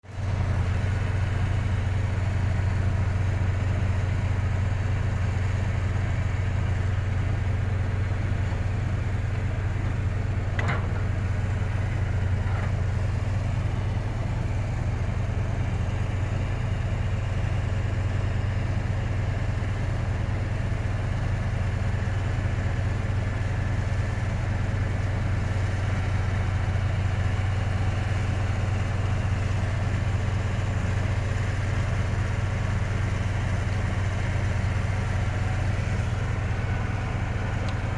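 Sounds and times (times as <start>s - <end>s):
bulldozer engine running: 0.0s - 37.9s.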